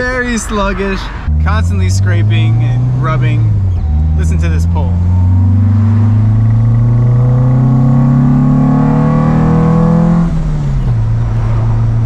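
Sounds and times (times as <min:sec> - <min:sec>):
car engine pulling hard: 0:00.0 - 0:12.0.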